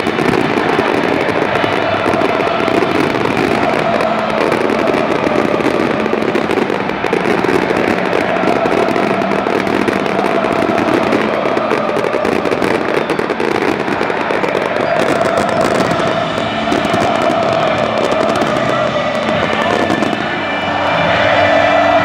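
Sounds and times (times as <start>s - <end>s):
firecrackers crackling: 0.0s - 22.0s
stadium crowd noise: 0.0s - 22.0s.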